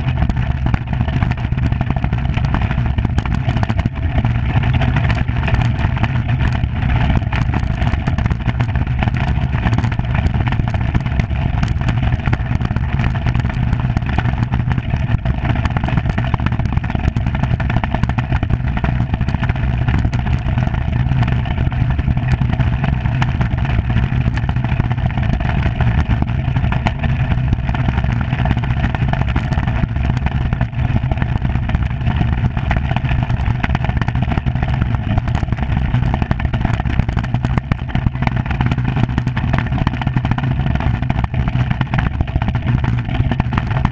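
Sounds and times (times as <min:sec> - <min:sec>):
iceboat runners on ice: 0:00.0 - 0:43.9
small ticks and clicks: 0:00.0 - 0:43.9.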